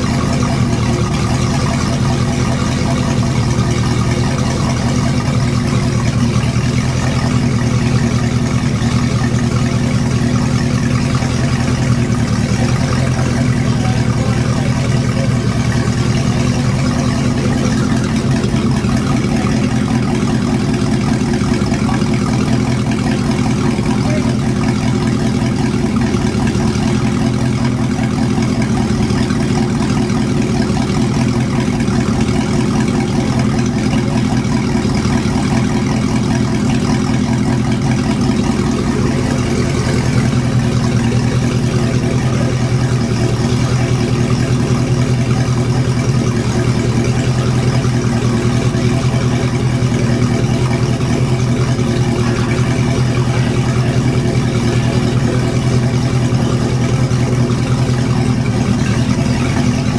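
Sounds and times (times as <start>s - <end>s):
boat engine running steadily: 0.0s - 59.9s.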